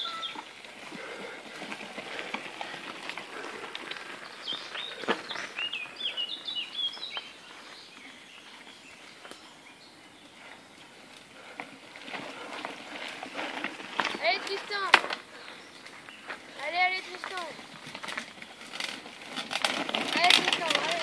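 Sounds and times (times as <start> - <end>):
bikes rolling over stony trail: 0.0 - 21.0.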